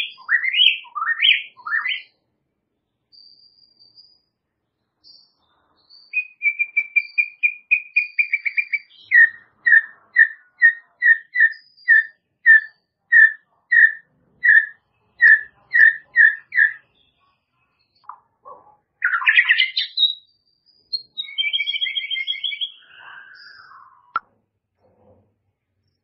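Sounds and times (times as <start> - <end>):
bird singing whistled notes: 0.0 - 2.2, 3.1 - 4.3, 5.0 - 18.2, 19.0 - 24.2.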